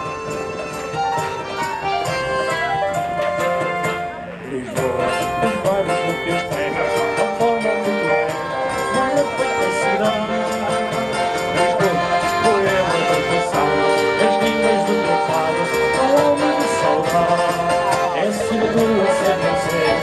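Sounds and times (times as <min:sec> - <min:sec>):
folk music with keyboard and guitars: 0:00.0 - 0:20.0.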